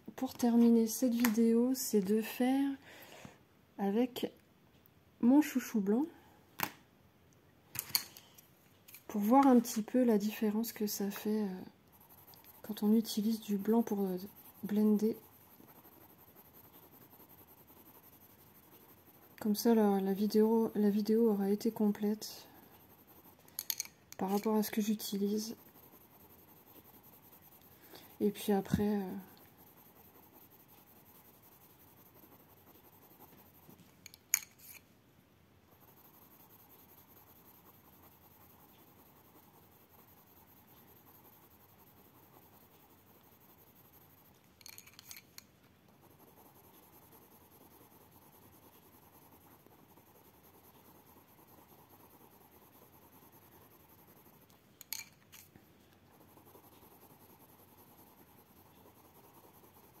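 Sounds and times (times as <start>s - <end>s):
pencil scratching on paper: 9.1s - 34.8s, 35.7s - 45.2s, 45.9s - 60.0s.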